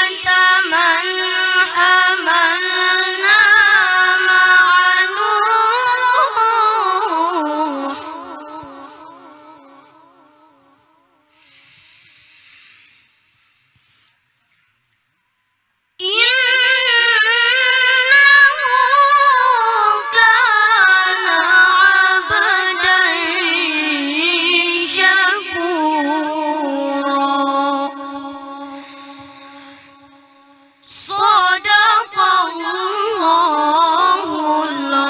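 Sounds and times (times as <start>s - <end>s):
boy reciting melodically: 0.0s - 10.6s, 16.0s - 35.0s.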